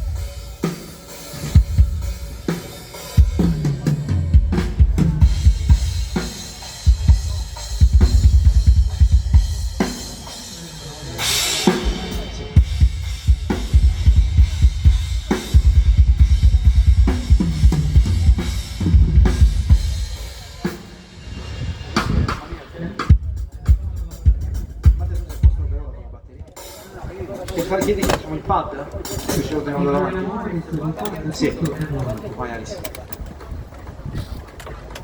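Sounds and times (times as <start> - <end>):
tom fills: 1.4 - 33.6.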